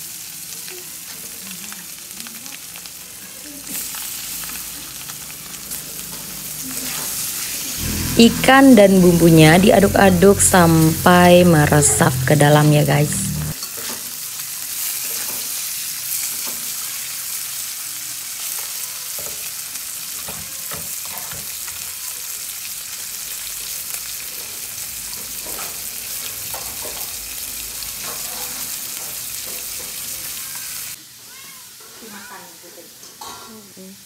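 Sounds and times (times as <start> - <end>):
fish sizzling in a wok: 0.0 - 9.0, 13.2 - 34.0.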